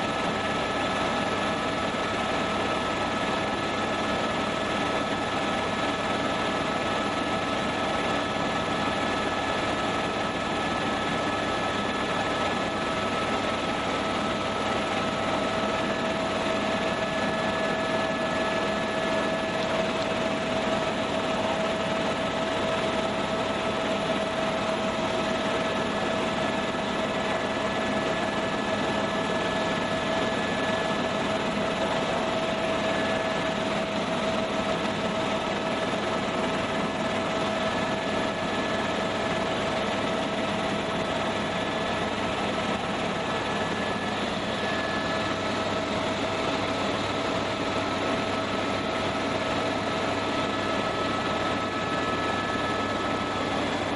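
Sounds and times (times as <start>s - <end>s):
helicopter cabin drone: 0.0s - 53.9s.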